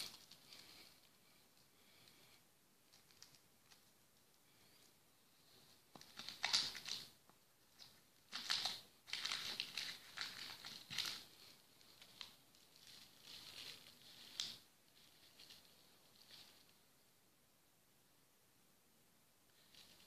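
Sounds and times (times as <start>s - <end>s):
thin plastic crinkling: 0.0s - 16.9s, 19.5s - 20.0s.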